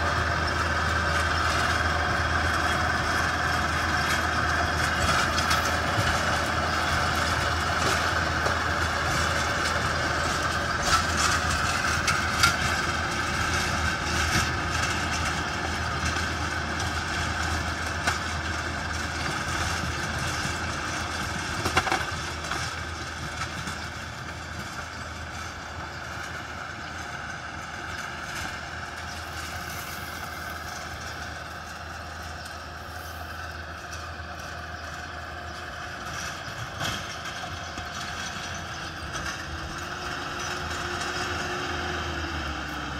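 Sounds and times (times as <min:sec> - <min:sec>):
rotary tiller working soil: 0:00.0 - 0:42.9
tractor diesel engine running: 0:00.0 - 0:42.9.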